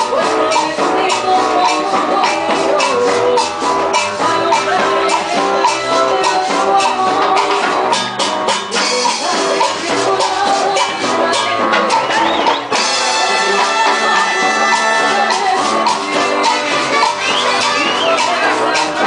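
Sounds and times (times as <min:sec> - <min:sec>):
hand percussion: 0:00.0 - 0:19.0
latin dance band playing: 0:00.0 - 0:19.0
person singing: 0:00.0 - 0:19.0.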